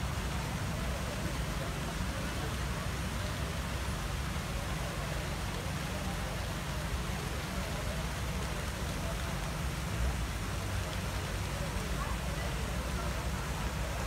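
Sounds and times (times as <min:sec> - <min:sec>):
murmur of people talking: 0:00.0 - 0:14.0
traffic rumble: 0:00.0 - 0:14.0.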